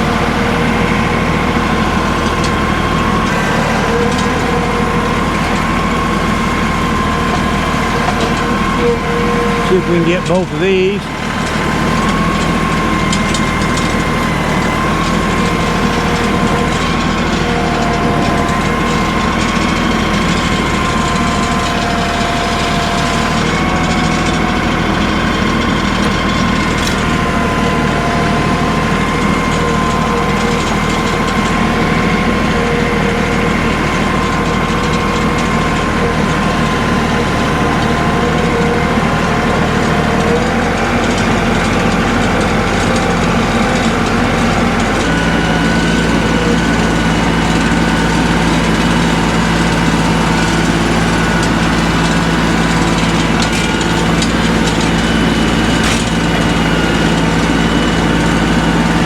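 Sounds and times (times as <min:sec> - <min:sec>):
hydraulic whine: 0:00.0 - 0:59.0
tractor diesel engine running: 0:00.0 - 0:59.0.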